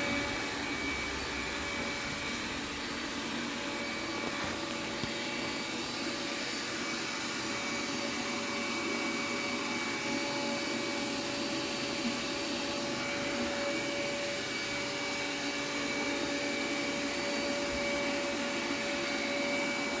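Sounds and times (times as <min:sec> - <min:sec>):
robot vacuum motor whirring: 0:00.0 - 0:20.0.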